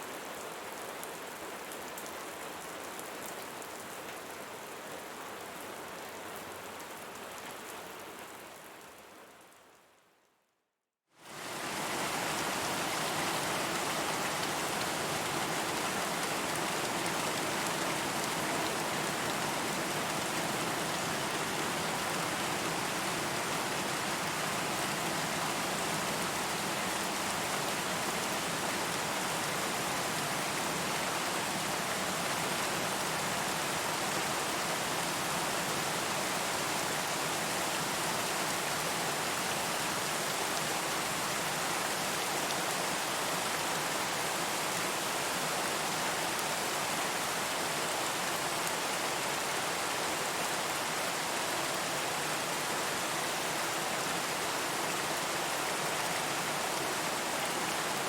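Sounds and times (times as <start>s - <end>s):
steady rain falling: 0.0s - 10.1s, 11.1s - 58.0s.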